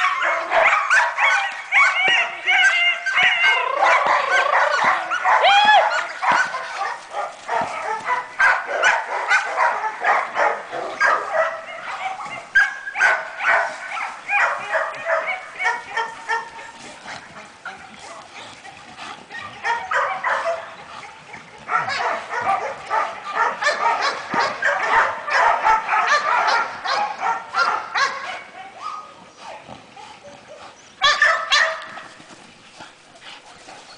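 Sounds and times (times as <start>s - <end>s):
dog barking: 0.0s - 17.9s, 19.4s - 20.7s, 21.7s - 29.6s, 31.0s - 32.0s.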